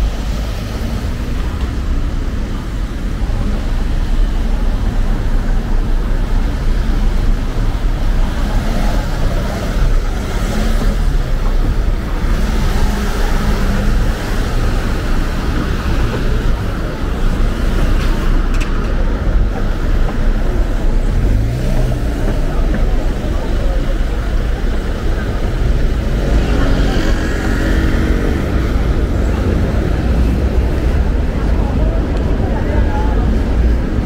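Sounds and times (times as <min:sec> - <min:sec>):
city traffic road noise: 0:00.0 - 0:34.0.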